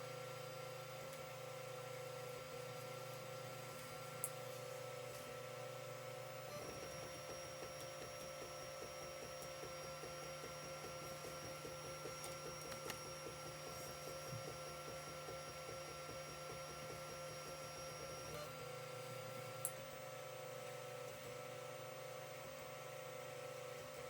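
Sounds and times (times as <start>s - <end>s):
printer stepper motors whining: 0.0s - 24.0s.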